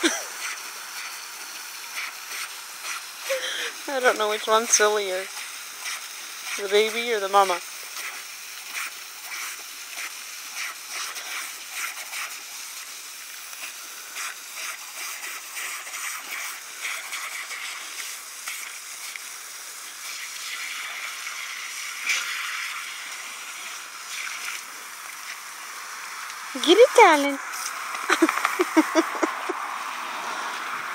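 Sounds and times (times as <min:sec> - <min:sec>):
dogs biting at water jet: 0:00.0 - 0:25.5, 0:26.6 - 0:29.7
garden hose spraying water: 0:00.0 - 0:30.9.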